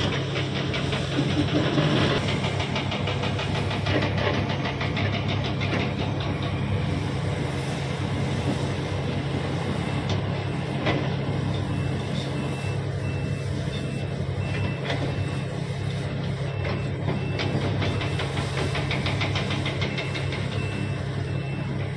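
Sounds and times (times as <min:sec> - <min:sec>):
heavy diesel engines running: 0:00.0 - 0:21.9
reversing alarm beeping: 0:00.0 - 0:21.9.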